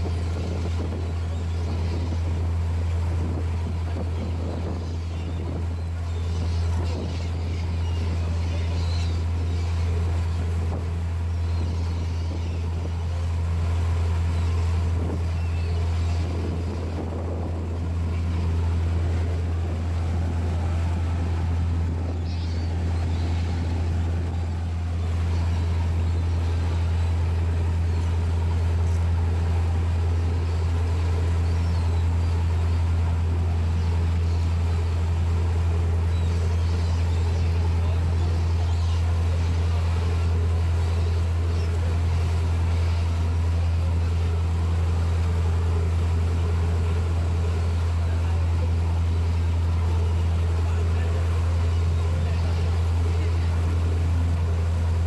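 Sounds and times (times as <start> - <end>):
boat engine droning: 0.0 - 55.0
water churning in boat wake: 0.0 - 55.0.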